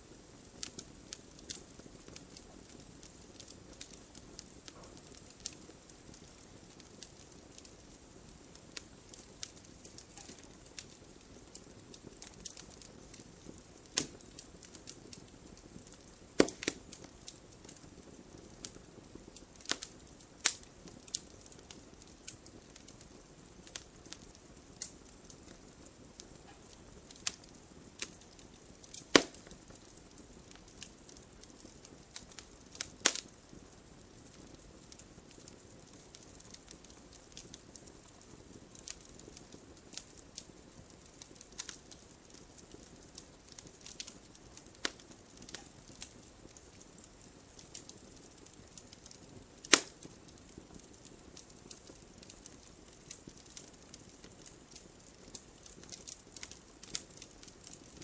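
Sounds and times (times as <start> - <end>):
faint steady hiss: 0.0 - 58.0
wood fire crackling: 0.0 - 58.0.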